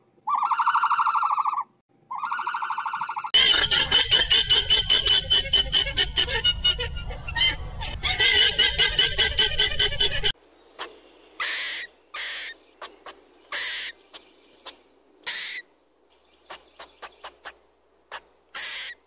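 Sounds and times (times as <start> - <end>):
squirrel hoarse calls: 0.3 - 15.7, 16.4 - 19.0.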